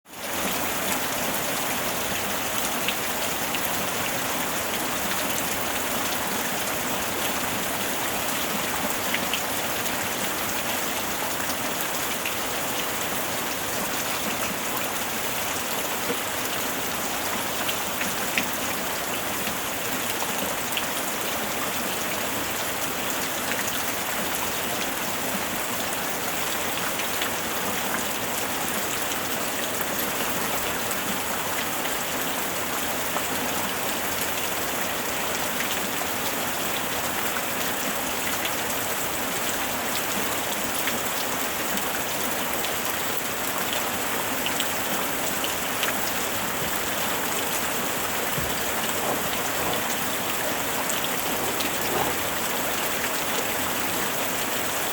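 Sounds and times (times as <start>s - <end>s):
steady rain hiss: 0.1s - 54.9s.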